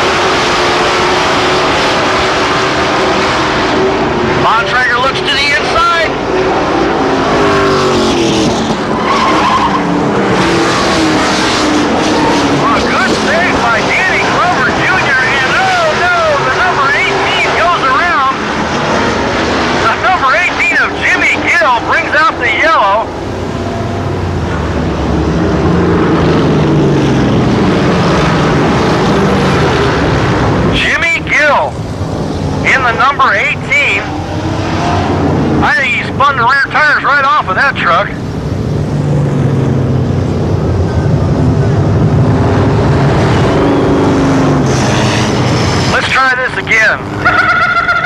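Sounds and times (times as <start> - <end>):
racing truck engines running: 0.0 - 48.0.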